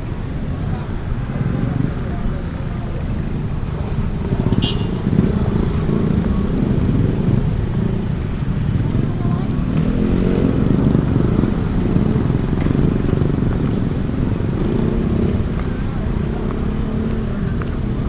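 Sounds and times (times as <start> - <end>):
people's voices: 0.0 - 18.0
vehicle engines running: 0.0 - 18.0.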